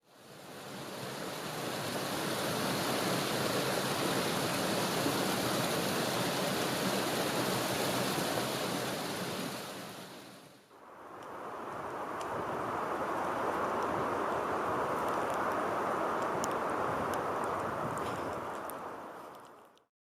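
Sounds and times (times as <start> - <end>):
running water rushing: 0.1 - 19.4.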